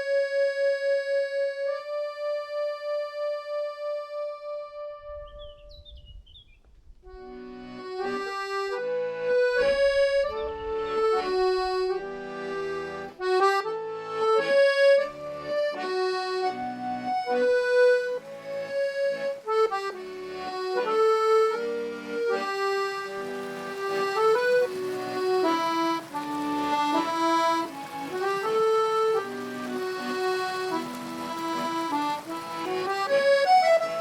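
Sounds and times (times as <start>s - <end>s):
accordion playing slow melody: 0.0s - 5.2s, 7.1s - 34.0s.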